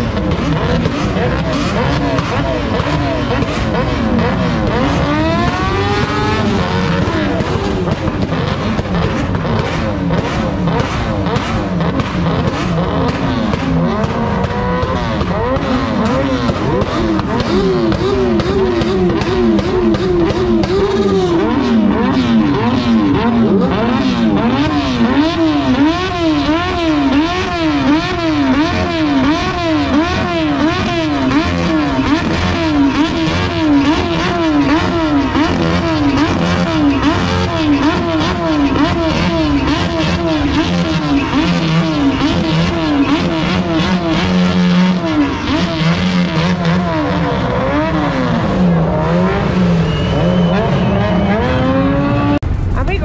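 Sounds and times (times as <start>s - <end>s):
exhaust pops crackling: 0.0s - 48.3s
motorcycle engines revving: 0.0s - 53.0s.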